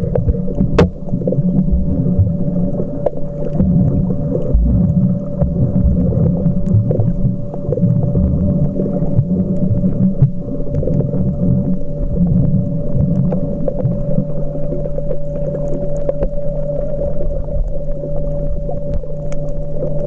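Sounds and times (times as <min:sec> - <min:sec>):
steady hum: 0:00.0 - 0:20.0
underwater water sloshing: 0:00.0 - 0:20.0.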